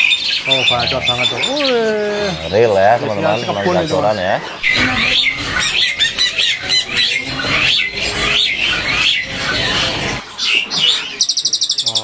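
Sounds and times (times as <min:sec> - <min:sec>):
songbird chattering song: 0:00.0 - 0:12.0.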